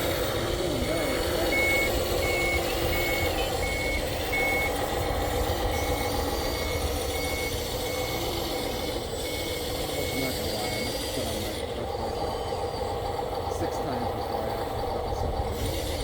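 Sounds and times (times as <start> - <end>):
vehicle reversing alarm beeping: 0.0 - 13.0
steady machine hum: 0.0 - 16.0.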